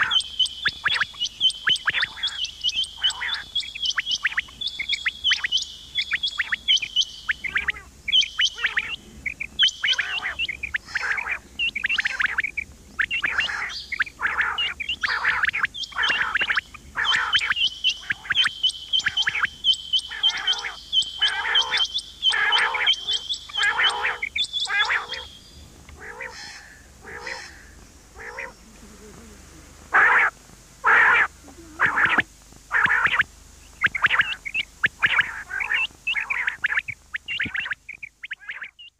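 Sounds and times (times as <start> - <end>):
quail chirping calls: 0.0 - 38.9.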